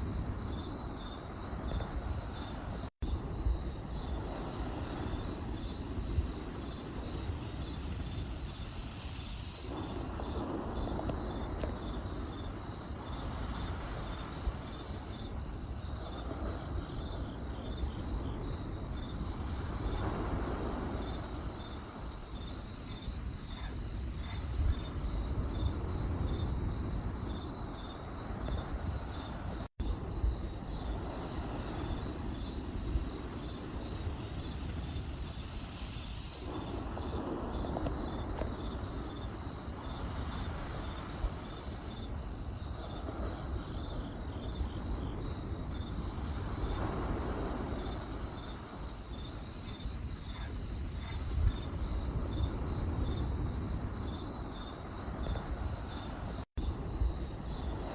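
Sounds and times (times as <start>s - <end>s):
campfire rumble: 0.0s - 57.9s
crickets chirping: 0.0s - 57.9s
fire crackling pops: 4.2s - 56.6s.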